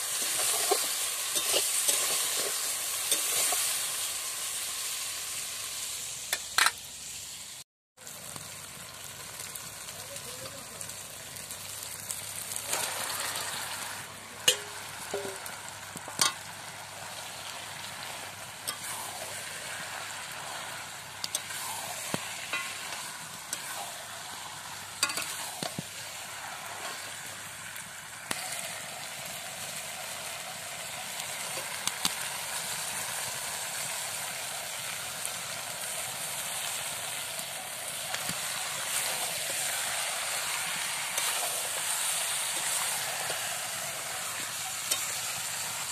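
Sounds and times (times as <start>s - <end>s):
meat sizzling in hot oil: 0.0s - 45.9s.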